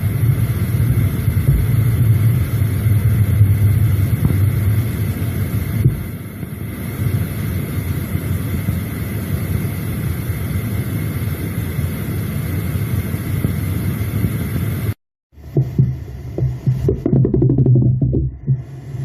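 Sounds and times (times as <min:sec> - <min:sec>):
low rumbling machine noise: 0:00.0 - 0:19.0.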